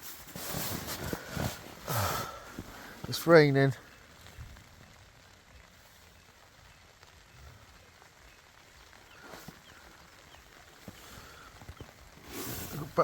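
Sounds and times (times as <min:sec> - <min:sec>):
faint rain falling: 0:00.0 - 0:13.0.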